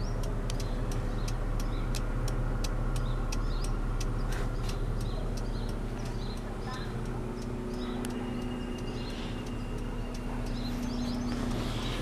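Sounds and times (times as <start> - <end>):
light ticks: 0.0 - 11.6
car engine idling: 0.0 - 12.0.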